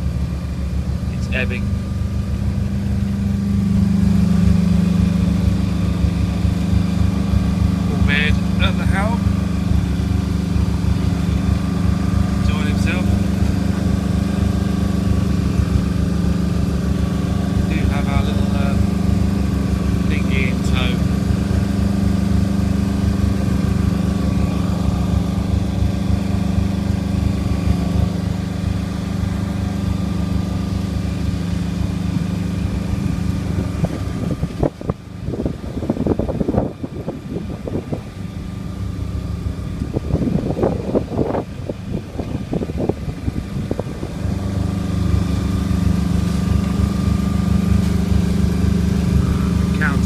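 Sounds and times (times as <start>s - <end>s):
boat engine humming: 0.0s - 50.0s.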